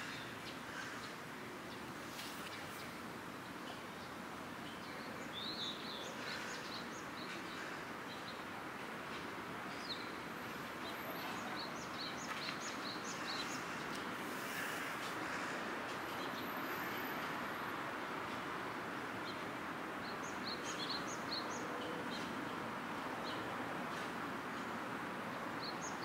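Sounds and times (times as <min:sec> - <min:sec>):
background environmental hiss: 0:00.0 - 0:26.0.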